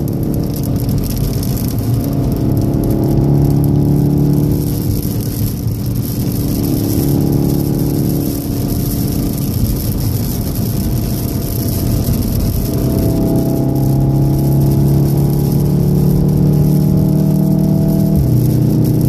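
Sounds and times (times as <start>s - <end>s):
car engine at high speed: 0.0s - 19.0s
tyres hissing on wet road: 0.0s - 19.0s.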